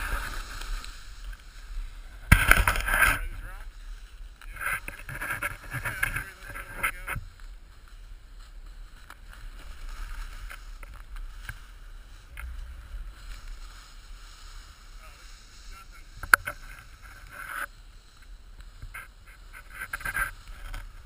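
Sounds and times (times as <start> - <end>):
snow swishing and spraying: 0.0 - 2.4, 5.5 - 21.0.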